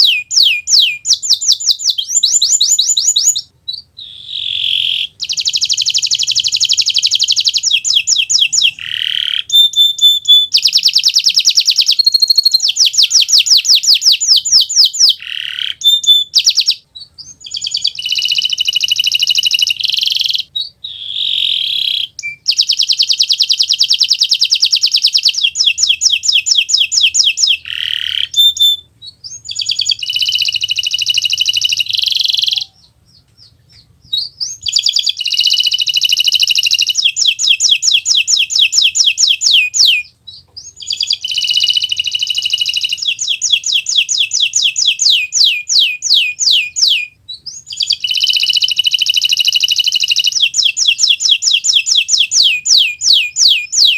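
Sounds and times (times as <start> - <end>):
canary singing rolling trills: 0.0 - 53.9.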